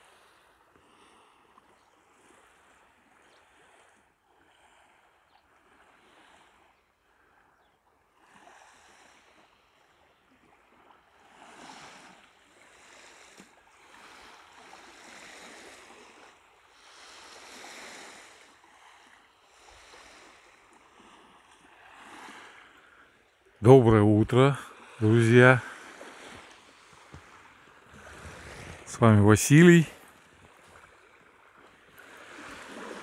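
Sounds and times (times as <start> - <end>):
small waves lapping on sand: 0.0 - 33.0.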